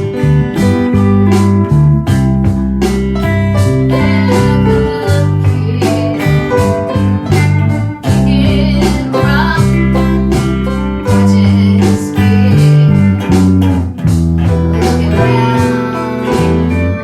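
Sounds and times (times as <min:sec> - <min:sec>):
blues band with guitar and drums: 0:00.0 - 0:17.0.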